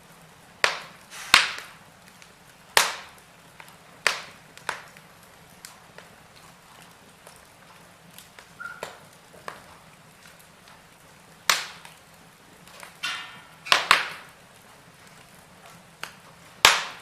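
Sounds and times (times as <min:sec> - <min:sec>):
faint steady hiss: 0:00.0 - 0:17.0
sharp pops of fire: 0:00.0 - 0:17.0
wood fire crackling: 0:00.0 - 0:17.0.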